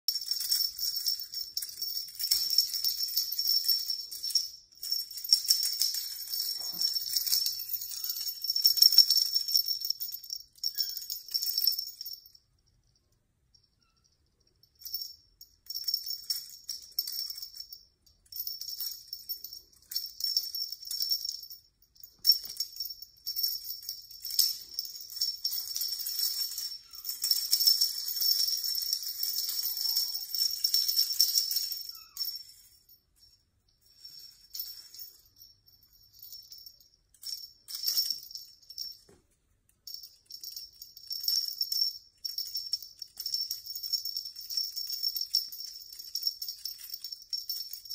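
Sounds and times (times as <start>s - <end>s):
small bell jingling: 0.0s - 47.9s.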